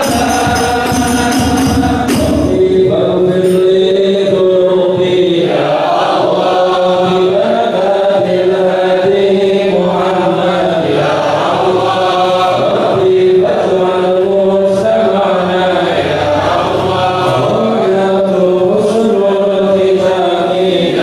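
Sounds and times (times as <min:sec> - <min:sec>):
congregation chanting in unison: 0:00.0 - 0:21.0.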